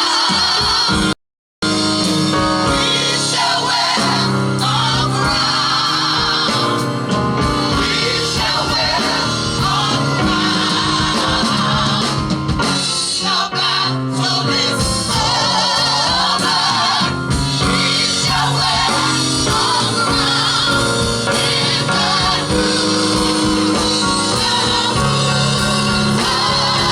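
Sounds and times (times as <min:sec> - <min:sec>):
backing band playing: 0:00.0 - 0:26.9
gospel group singing: 0:00.0 - 0:26.9.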